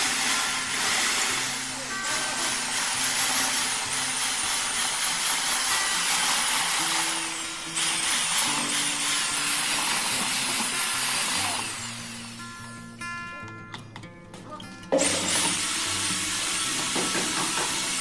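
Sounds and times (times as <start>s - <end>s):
electric drill mixer whining: 0.0s - 12.6s, 15.0s - 18.0s.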